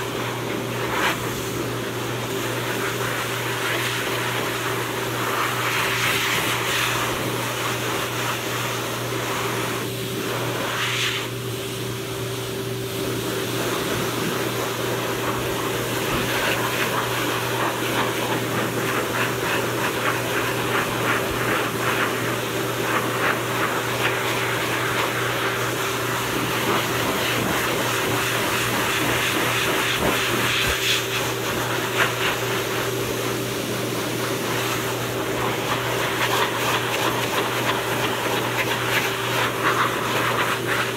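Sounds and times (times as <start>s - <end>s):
blow dryer running: 0.0s - 40.9s.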